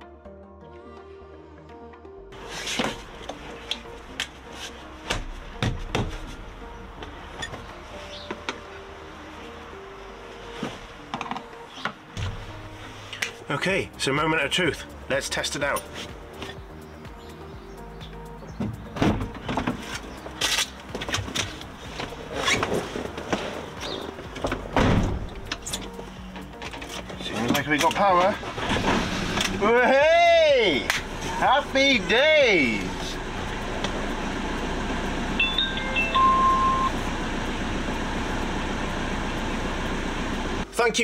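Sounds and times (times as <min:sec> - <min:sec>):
faint background music: 0:00.0 - 0:35.0, 0:40.6 - 0:41.0.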